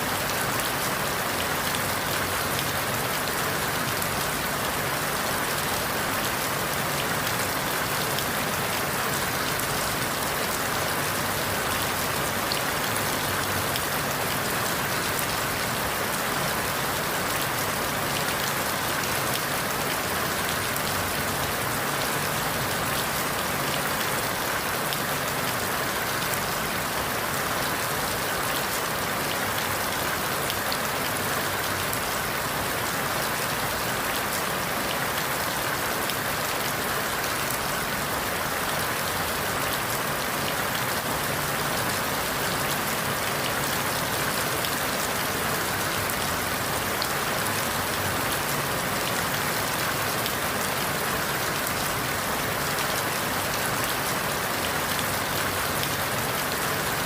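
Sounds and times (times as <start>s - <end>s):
rain falling through forest leaves: 0.0s - 57.0s.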